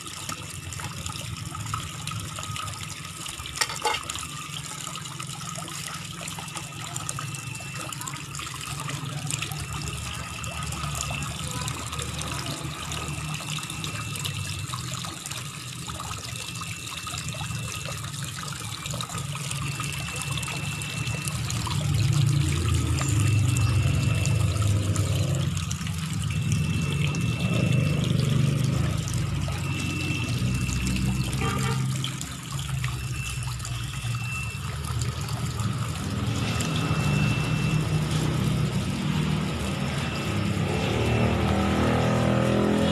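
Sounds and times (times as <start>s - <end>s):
tap water running into tub: 0.0s - 42.9s.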